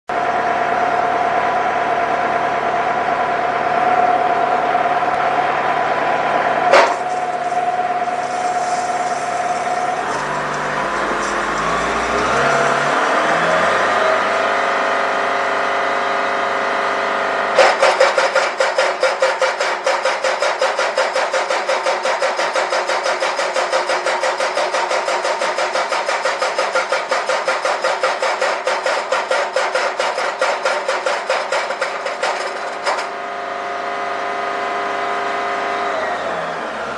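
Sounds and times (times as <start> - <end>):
machine running: 0.1 - 36.9.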